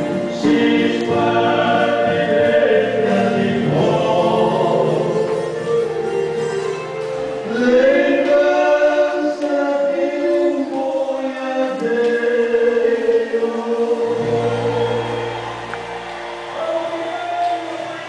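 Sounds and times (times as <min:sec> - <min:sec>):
choir singing held notes: 0:00.0 - 0:18.0.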